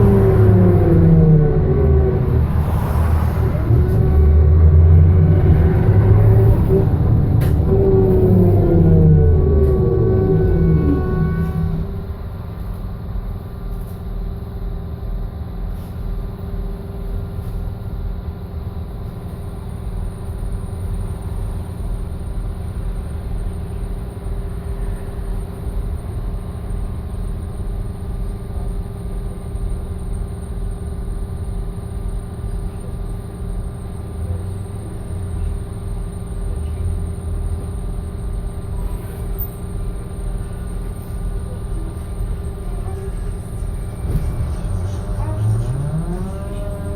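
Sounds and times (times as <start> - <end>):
constant hum: 0.0 - 46.9
trolleybus running gear rumble: 0.0 - 46.9.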